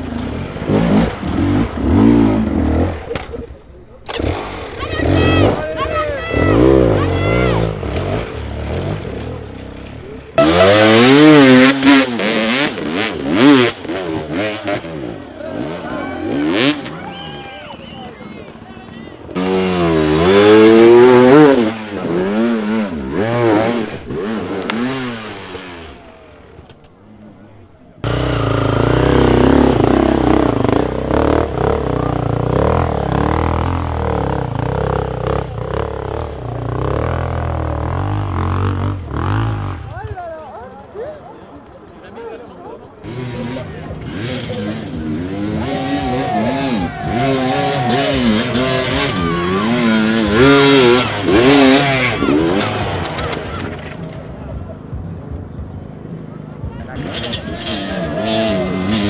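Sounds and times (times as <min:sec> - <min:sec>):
dirt bike engine revving: 0:00.0 - 0:17.8, 0:19.2 - 0:26.7, 0:28.0 - 0:40.2, 0:42.8 - 0:54.9, 0:56.8 - 0:59.0.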